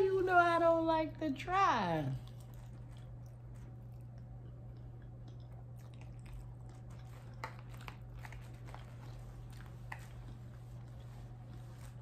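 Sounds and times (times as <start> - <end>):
low hum: 0.0 - 12.0
person chewing food: 2.2 - 12.0.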